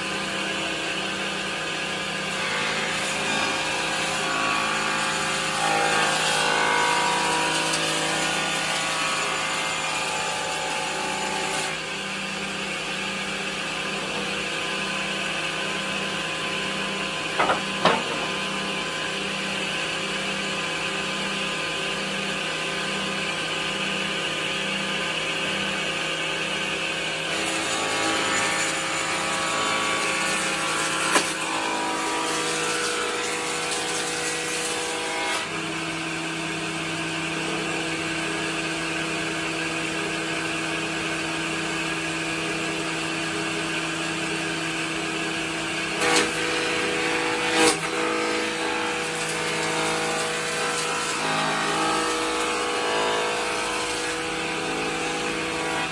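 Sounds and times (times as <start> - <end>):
woodworking machine motor hum: 0.0 - 55.9.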